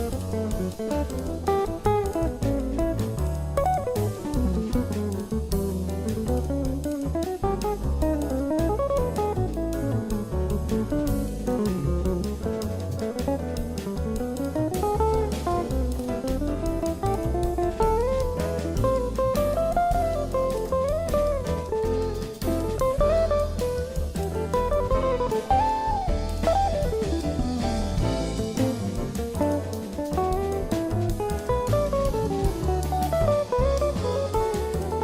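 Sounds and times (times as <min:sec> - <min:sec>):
guitar-led instrumental music: 0:00.0 - 0:35.0.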